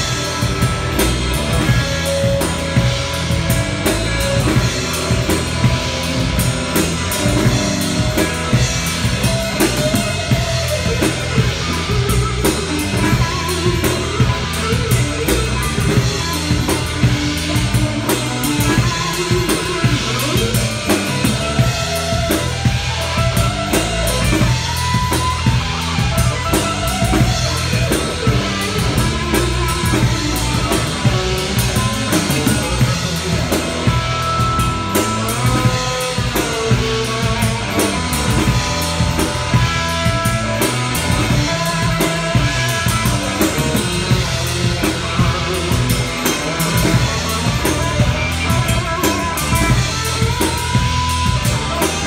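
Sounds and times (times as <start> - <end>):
drum kit beat: 0.0 - 52.0
electric bass: 0.0 - 52.0
electric guitar lead lines: 0.0 - 52.0.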